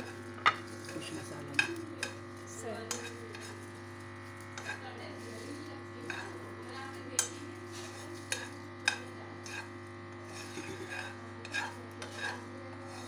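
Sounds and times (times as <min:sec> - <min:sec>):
spoon scraping a wok: 0:00.0 - 0:13.0.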